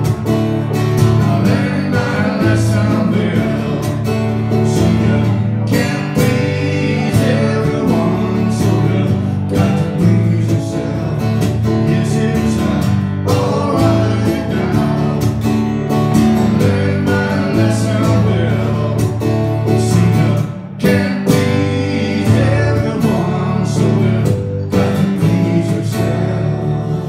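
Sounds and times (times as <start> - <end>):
acoustic guitar strumming: 0.0 - 27.0
keyboard chords: 0.0 - 27.0
man singing: 1.0 - 15.7, 16.4 - 27.0.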